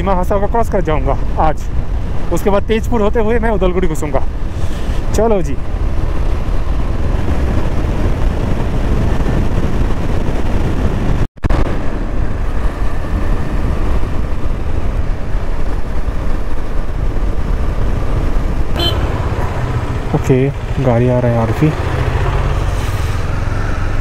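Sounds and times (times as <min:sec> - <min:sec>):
motorcycle road noise: 0:00.0 - 0:24.0
wind rush: 0:00.4 - 0:24.0.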